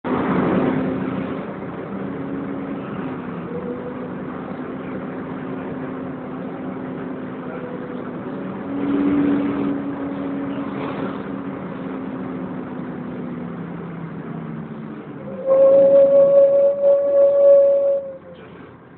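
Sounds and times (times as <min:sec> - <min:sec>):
bus engine and cooling fan drone: 0:00.0 - 0:18.9
low hums: 0:02.4 - 0:18.6.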